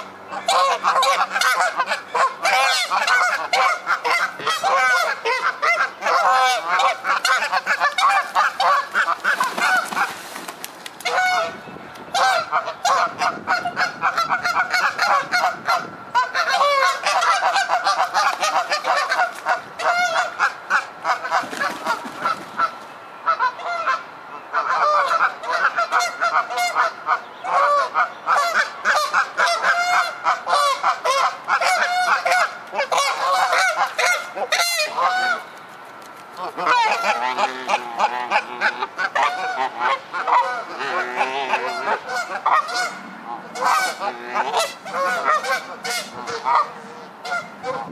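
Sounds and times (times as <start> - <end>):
geese honking: 0.0 - 10.2, 11.0 - 35.5, 36.4 - 47.9.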